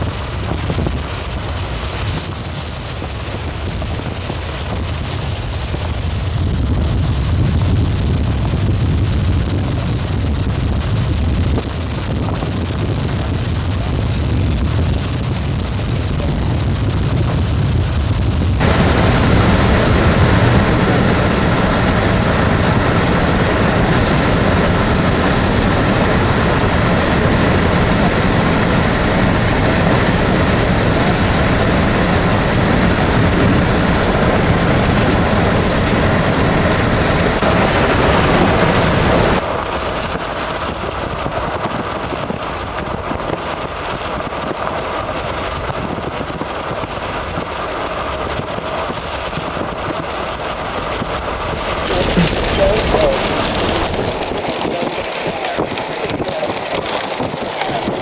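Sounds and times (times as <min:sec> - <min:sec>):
car wind and road noise: 0:00.0 - 0:58.0.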